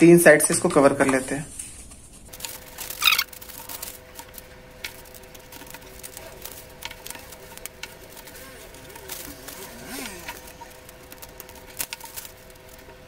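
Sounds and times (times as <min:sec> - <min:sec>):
cardboard scraping: 0:01.1 - 0:13.0.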